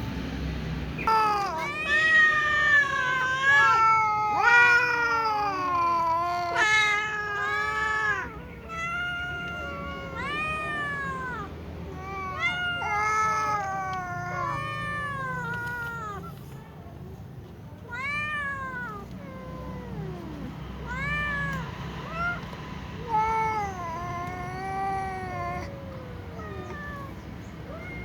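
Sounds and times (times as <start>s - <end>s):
cats meowing: 1.0s - 28.0s.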